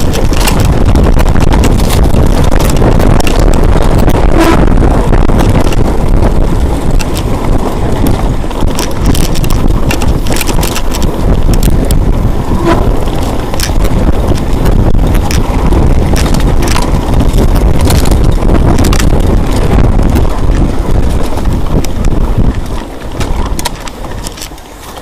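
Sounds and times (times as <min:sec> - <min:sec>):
sharp clicks and rattles: 0:00.0 - 0:25.0
wind rumble on microphone: 0:00.0 - 0:25.0.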